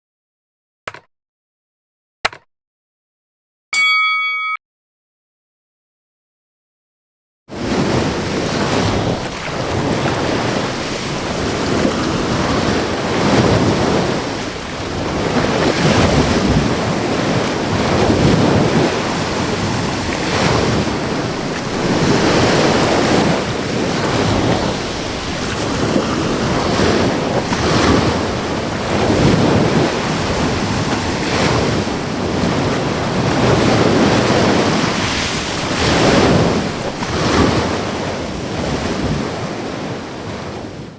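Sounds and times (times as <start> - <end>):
ocean waves breaking on shore: 7.5 - 40.9
wind on microphone: 7.5 - 40.9.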